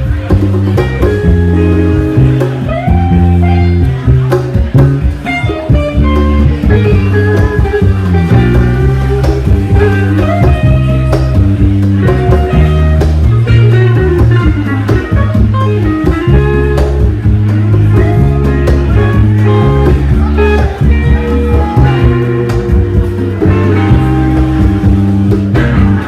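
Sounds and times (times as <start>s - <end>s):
band playing blues-rock: 0.0s - 26.0s.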